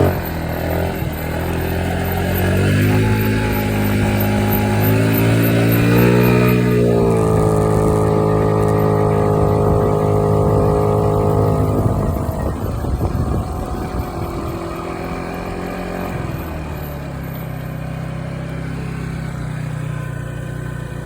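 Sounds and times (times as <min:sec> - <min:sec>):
moped engine running: 0:00.0 - 0:21.0.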